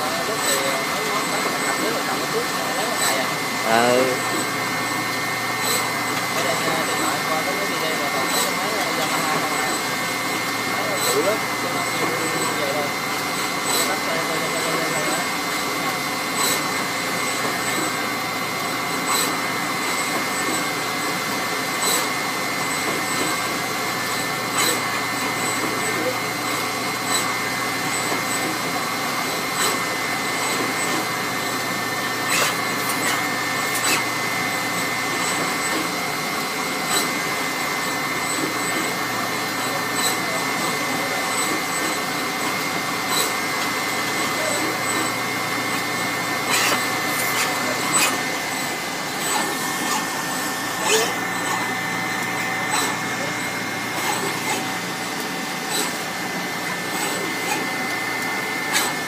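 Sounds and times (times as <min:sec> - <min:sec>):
machine whirring hum: 0:00.0 - 0:59.0.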